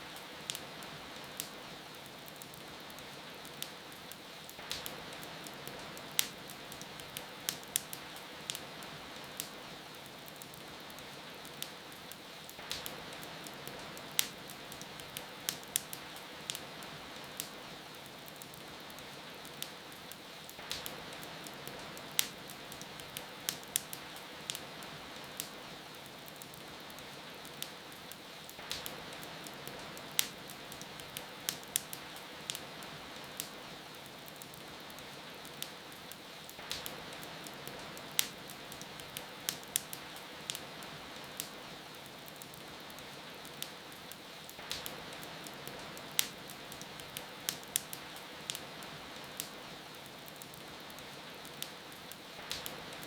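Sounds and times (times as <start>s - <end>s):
steady rain hiss: 0.0s - 53.0s
wood fire crackling: 0.0s - 53.0s.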